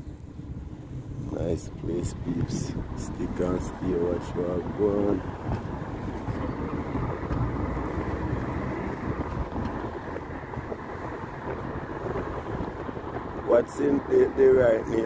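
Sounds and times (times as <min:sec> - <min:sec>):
car tyre and engine rumble: 0:00.0 - 0:15.0.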